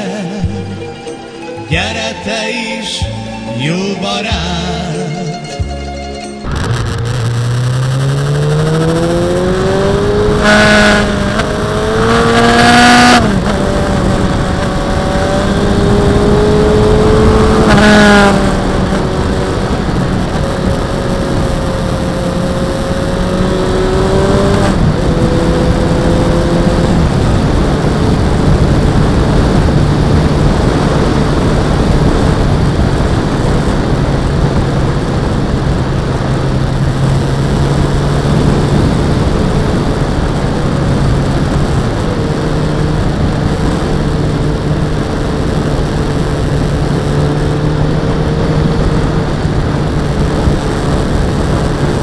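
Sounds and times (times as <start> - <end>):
motorcycle engine accelerating: 4.6 - 52.0
wind noise: 6.4 - 52.0.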